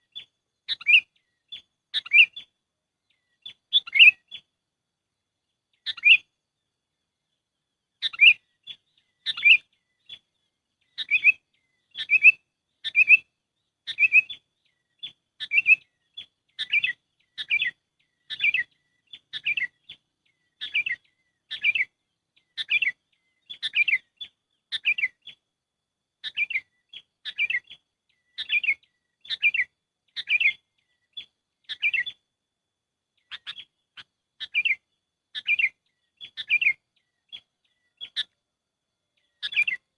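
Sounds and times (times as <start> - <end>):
bulbul chattering calls: 0.0 - 2.5, 3.1 - 4.5, 5.8 - 6.3, 8.0 - 25.4, 26.2 - 32.2, 33.2 - 38.4, 39.2 - 39.9.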